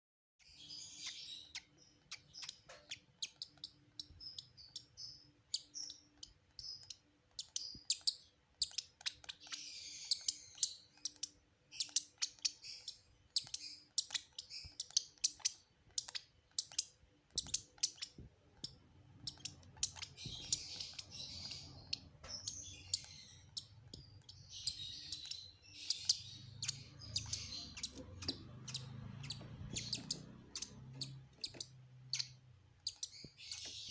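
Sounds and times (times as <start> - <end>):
chicks begging chirps: 0.6 - 33.9.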